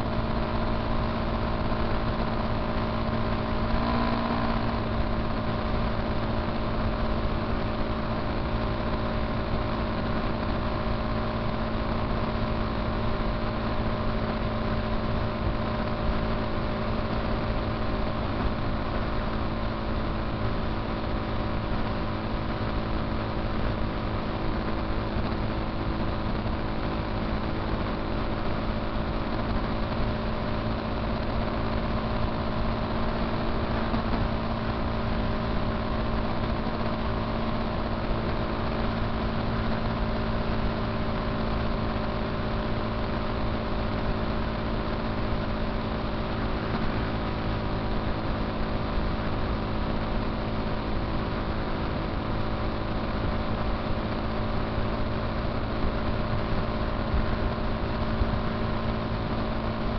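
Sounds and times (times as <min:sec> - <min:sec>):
motorcycle engine hum: 0:00.0 - 0:59.9
wind and road noise: 0:00.0 - 0:59.9.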